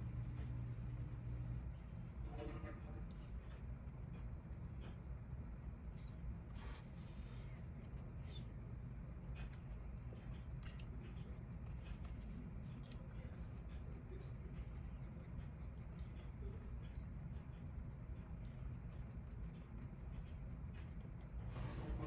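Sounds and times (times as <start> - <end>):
low steady hum: 0.0 - 22.0
pencil scratching on paper: 0.0 - 22.0.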